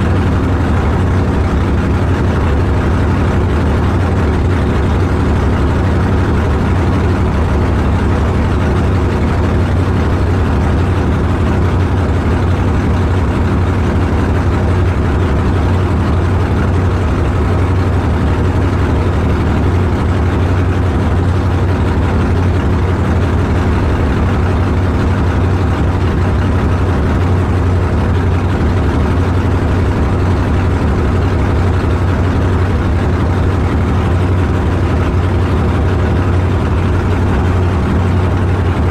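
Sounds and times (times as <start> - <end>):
car engine running steadily: 0.0 - 38.9.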